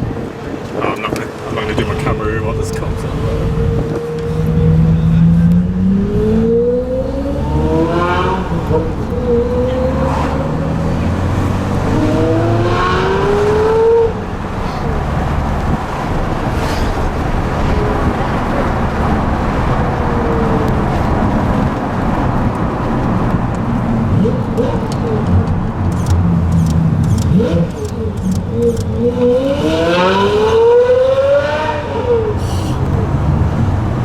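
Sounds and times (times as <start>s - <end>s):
car engine accelerating: 0.0s - 34.0s
traffic noise: 0.0s - 34.0s.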